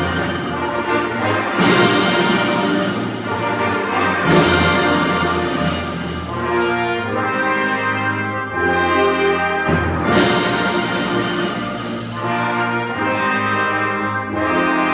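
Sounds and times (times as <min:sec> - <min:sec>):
held brass chords: 0:00.0 - 0:14.9
symphony orchestra playing: 0:00.0 - 0:14.9.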